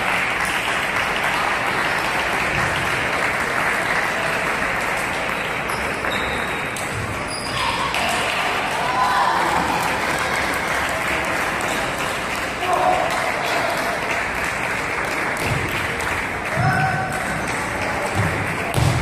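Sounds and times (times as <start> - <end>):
crowd chatter: 0.0 - 19.0
spectators clapping: 0.0 - 19.0.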